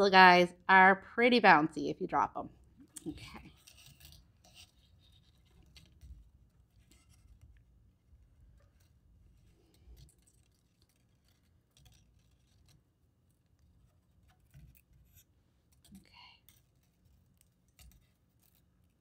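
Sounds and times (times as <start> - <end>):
wire winding clicks and scratches: 2.7 - 19.0.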